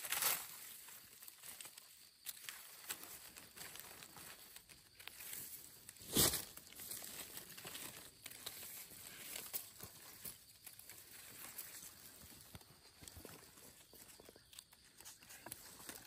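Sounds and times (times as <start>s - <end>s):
dry leaves crackling and rustling: 0.0s - 16.0s.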